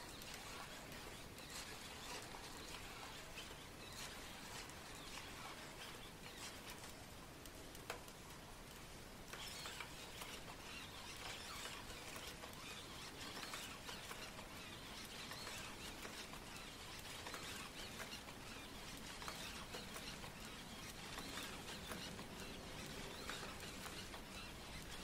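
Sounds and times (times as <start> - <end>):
robot paws pattering on carpet: 0.0 - 25.0
robot leg motors whirring: 0.1 - 7.0, 9.3 - 25.0.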